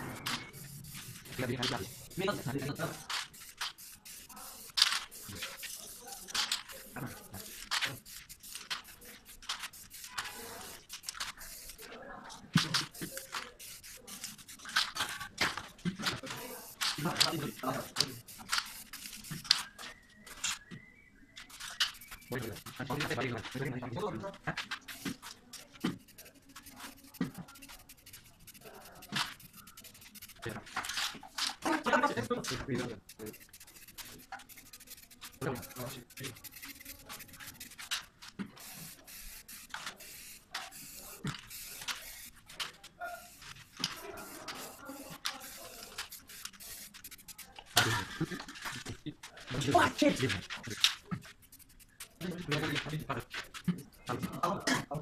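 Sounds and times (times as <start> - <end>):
spray paint can hissing: 0.0 - 11.9, 12.5 - 20.6, 21.4 - 55.0.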